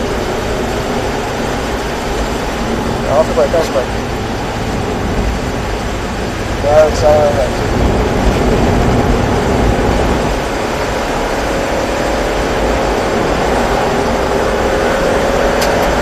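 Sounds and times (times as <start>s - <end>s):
car engine accelerating: 0.0s - 16.0s
road and tyre noise: 0.0s - 16.0s.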